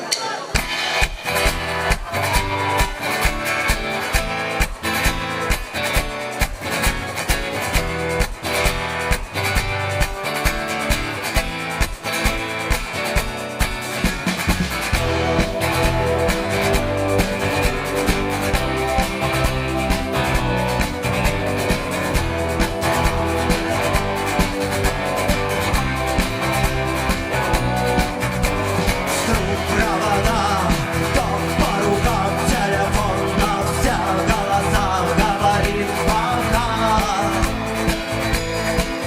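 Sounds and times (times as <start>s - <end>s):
drums steady beat: 0.0s - 39.0s
electric guitars: 0.0s - 39.0s
bass guitar: 0.6s - 39.0s.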